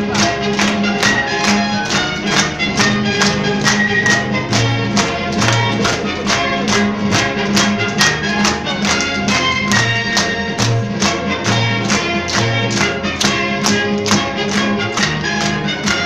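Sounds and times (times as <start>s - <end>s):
instrumental music with quick beat: 0.0s - 16.0s.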